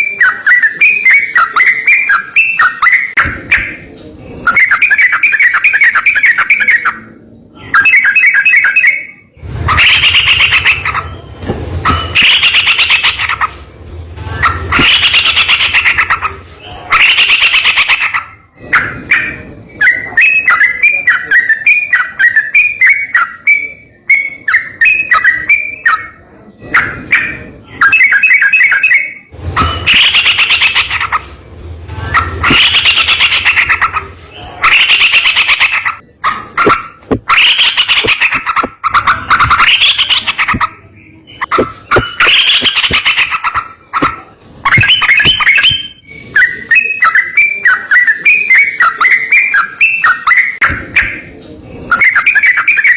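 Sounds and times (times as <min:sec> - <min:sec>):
bird singing harsh chattering: 0:00.0 - 0:52.9.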